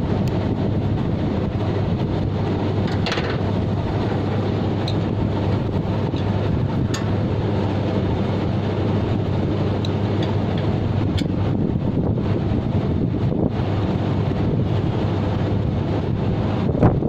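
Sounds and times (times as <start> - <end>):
low hum: 0.0 - 17.0
wind on microphone: 0.0 - 17.0.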